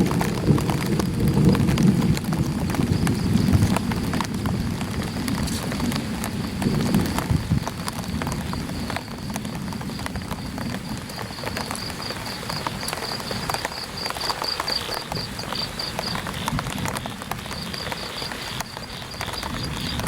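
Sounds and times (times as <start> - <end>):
footsteps on wet ground: 0.0 - 20.0
rain pattering on umbrella: 0.0 - 20.0.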